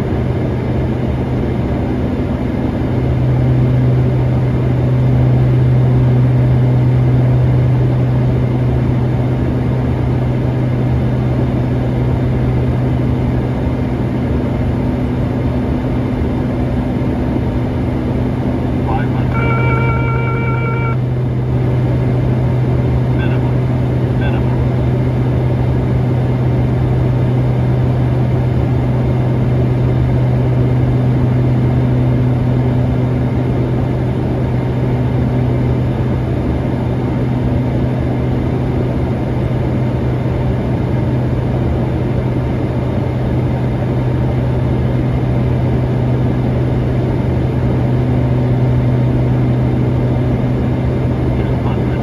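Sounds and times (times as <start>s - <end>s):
propeller aircraft engine drone: 0.0s - 52.0s.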